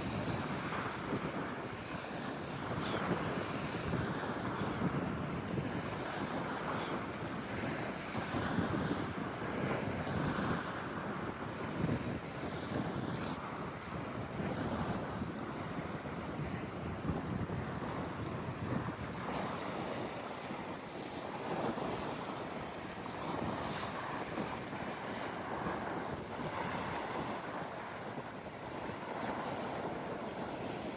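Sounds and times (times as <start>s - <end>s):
sea waves washing in: 0.0s - 30.9s
wind blowing across microphone: 0.0s - 30.9s.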